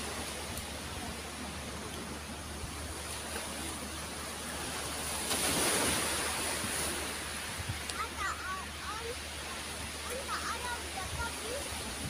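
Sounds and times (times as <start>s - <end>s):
waves washing onto pebble beach: 0.0s - 12.0s.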